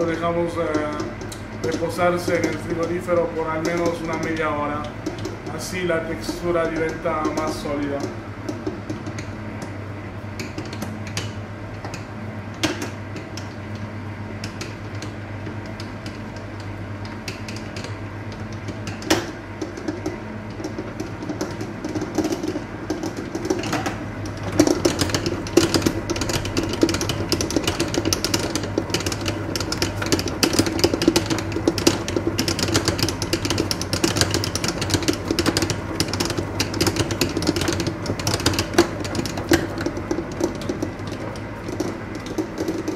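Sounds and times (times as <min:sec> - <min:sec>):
stand mixer motor humming: 0:00.0 - 0:42.9.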